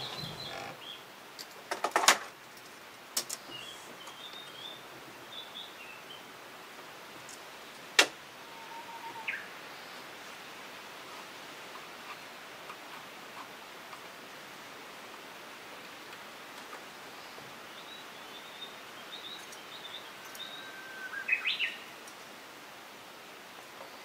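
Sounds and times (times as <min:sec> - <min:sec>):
faint birds chirping: 0:00.0 - 0:01.2, 0:03.2 - 0:22.4.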